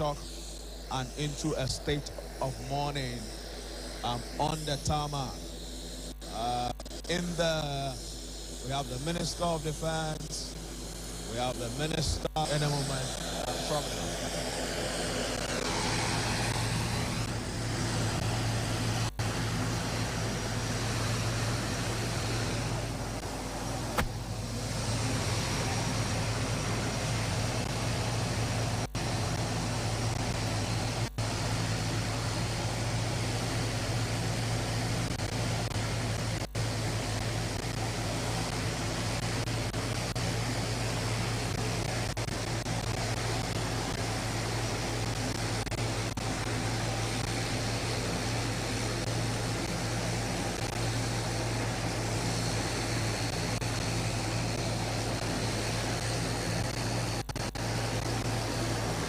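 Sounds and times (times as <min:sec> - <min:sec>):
aircraft engines droning: 0:00.0 - 0:59.0.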